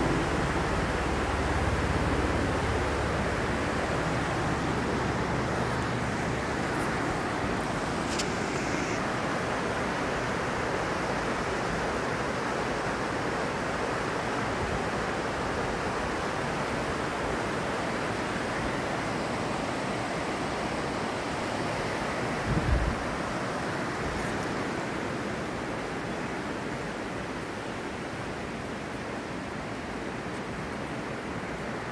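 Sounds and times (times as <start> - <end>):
white-water rapids rushing: 0.0 - 31.9.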